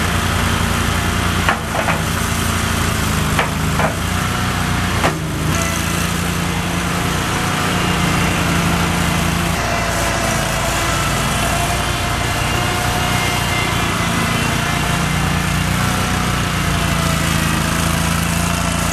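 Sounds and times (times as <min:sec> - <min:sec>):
engine running: 0:00.0 - 0:18.9.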